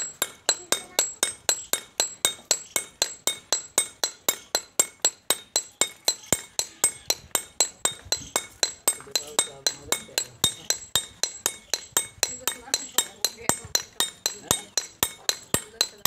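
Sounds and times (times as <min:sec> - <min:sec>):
hammer striking chisel on stone: 0:00.0 - 0:16.0.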